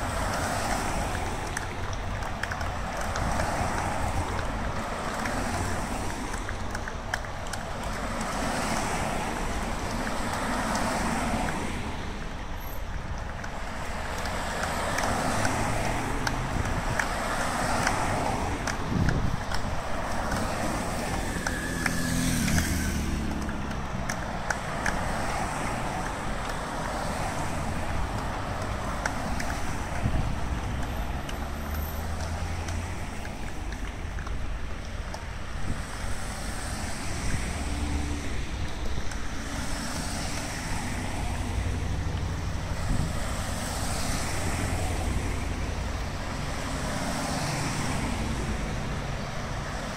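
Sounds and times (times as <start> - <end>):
cars driving past slowly: 0.0 - 49.9.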